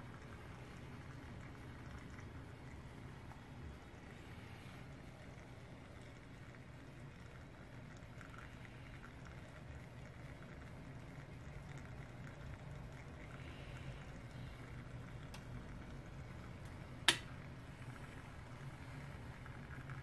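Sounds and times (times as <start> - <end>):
coffee maker bubbling hiss: 0.0 - 20.0
light crackles: 0.2 - 20.0.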